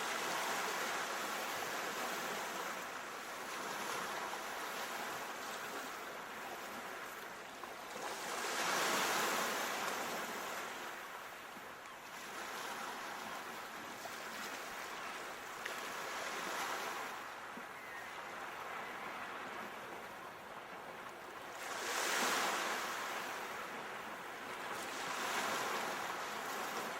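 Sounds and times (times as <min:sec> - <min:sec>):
sea waves washing ashore: 0:00.0 - 0:26.9.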